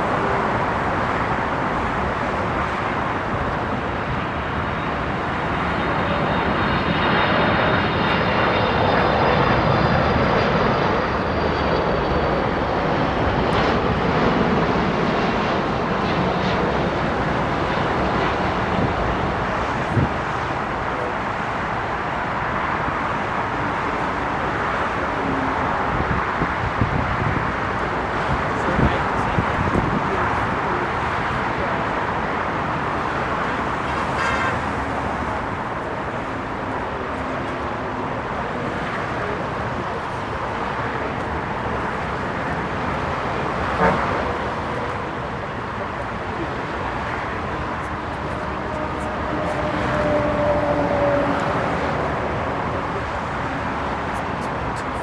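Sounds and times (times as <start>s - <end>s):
jet aircraft flying past: 0.0s - 55.0s.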